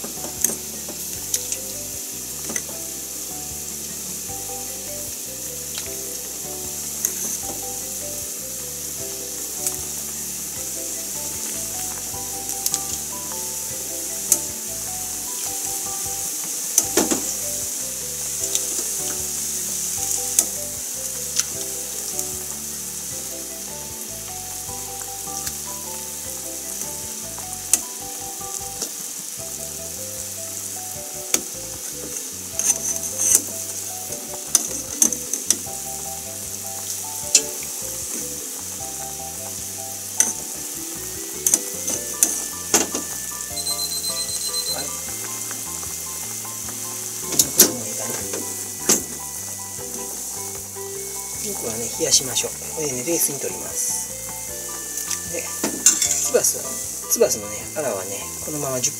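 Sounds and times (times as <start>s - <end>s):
pot boiling and bubbling: 0.0s - 58.9s
soft background music: 0.0s - 58.9s.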